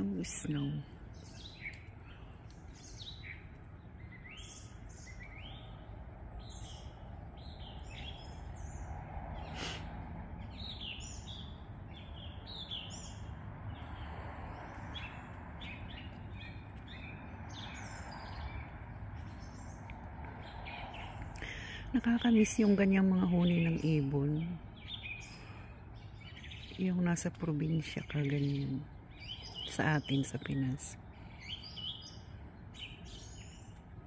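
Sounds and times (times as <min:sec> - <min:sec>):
birds singing and chirping: 0:00.0 - 0:34.0.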